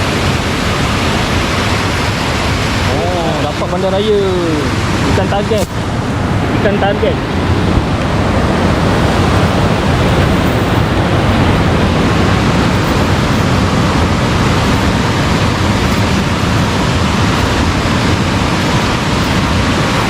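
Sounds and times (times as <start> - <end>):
fast-flowing water rushing: 0.0 - 20.0.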